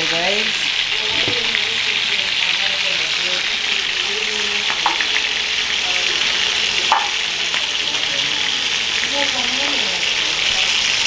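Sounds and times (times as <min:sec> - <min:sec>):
oil sizzling: 0:00.0 - 0:11.0.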